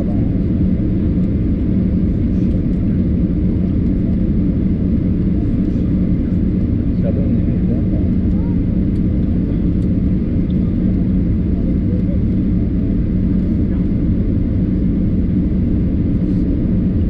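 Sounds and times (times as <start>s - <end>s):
aircraft cabin rumble and hum: 0.0s - 17.0s.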